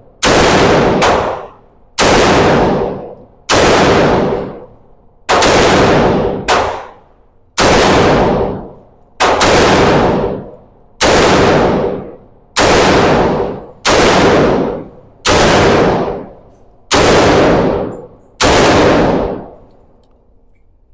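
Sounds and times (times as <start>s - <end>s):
gunshots: 0.2s - 7.0s, 7.6s - 19.7s.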